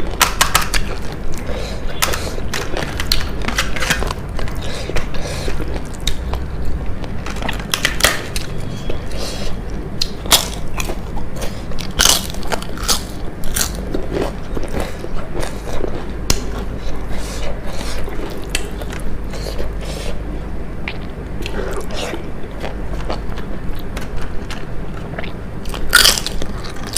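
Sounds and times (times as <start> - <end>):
crunching of fried food: 0.0 - 20.0, 20.9 - 26.9
steady low hum: 0.0 - 26.9.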